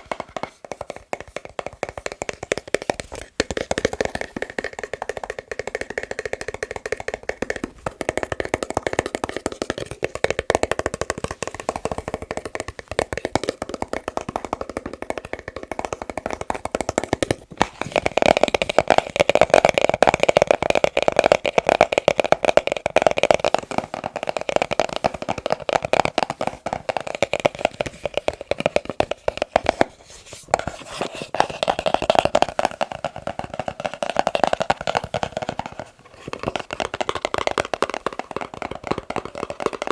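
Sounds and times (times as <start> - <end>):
fast tapping on boxes: 0.0 - 39.9.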